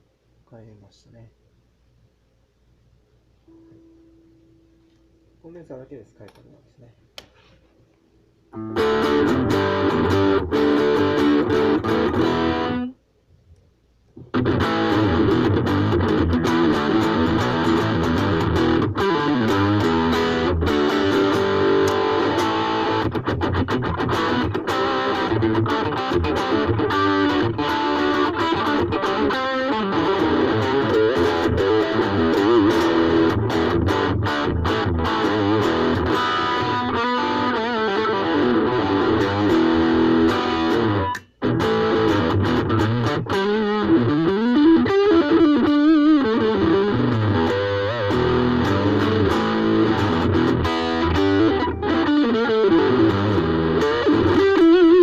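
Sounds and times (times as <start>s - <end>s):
electric guitar through amplifier: 8.5s - 13.0s, 14.2s - 55.0s.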